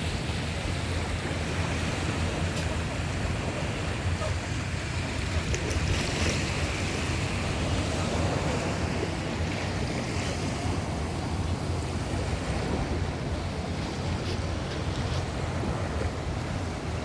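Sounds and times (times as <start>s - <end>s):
sea waves washing in: 0.0s - 17.0s
wind rumbling on microphone: 0.0s - 17.0s.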